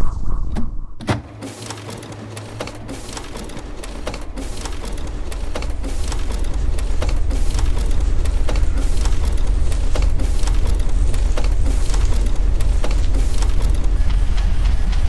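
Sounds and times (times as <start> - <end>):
low hum: 0.0 - 15.0
dense crackling and ticking: 1.5 - 15.0.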